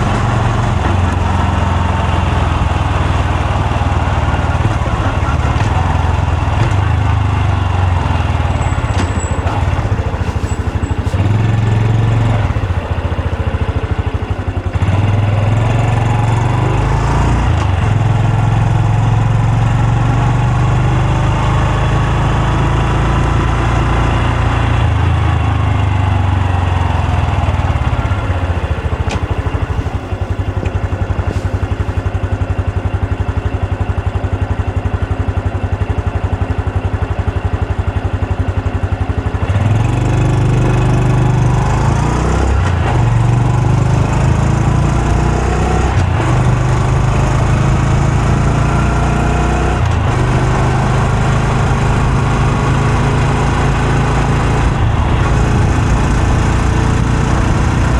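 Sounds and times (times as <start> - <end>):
motorcycle engine idling and revving: 0.0 - 57.9.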